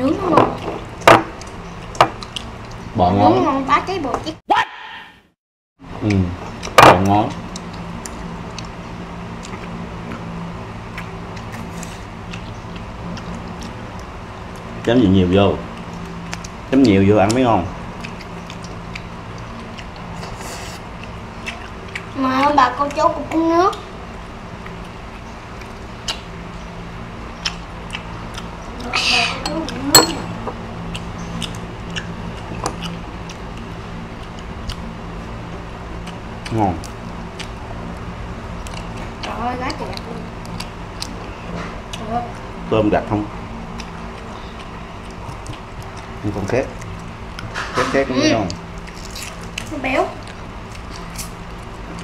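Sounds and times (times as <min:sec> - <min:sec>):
people eating at a table: 0:00.0 - 0:05.0, 0:05.8 - 0:52.0
steady low hum: 0:05.8 - 0:52.0.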